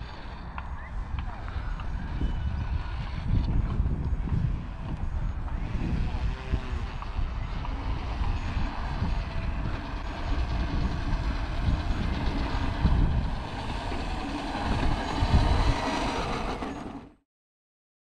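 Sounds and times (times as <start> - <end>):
faint electric motor whine: 0.0 - 17.2
model plane low rumble: 0.0 - 17.2.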